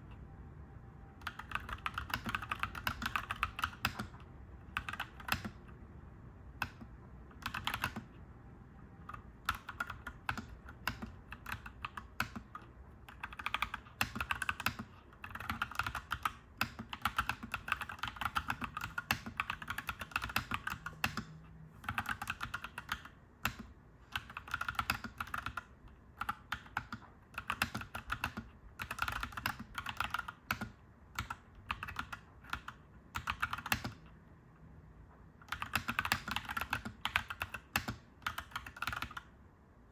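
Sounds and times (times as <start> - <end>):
mechanical keyboard typing: 1.2 - 5.8, 6.5 - 8.2, 9.0 - 34.1, 35.4 - 39.9.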